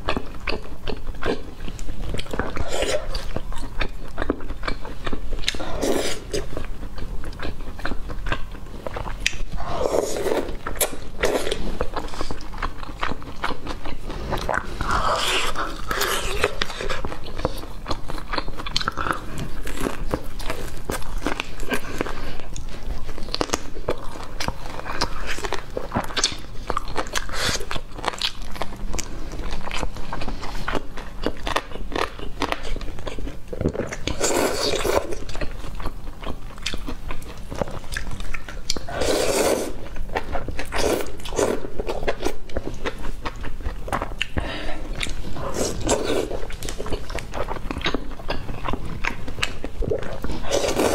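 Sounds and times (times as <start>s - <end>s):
person chewing crispy food: 0.0s - 50.9s.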